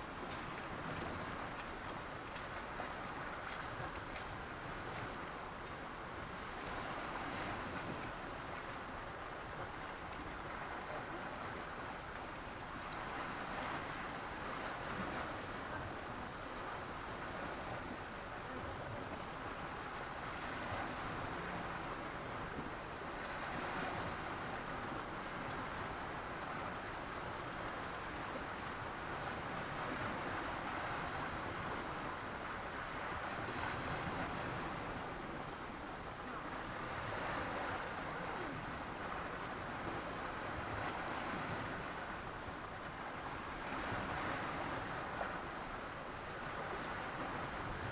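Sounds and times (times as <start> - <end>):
sea waves breaking on beach: 0.0 - 47.9.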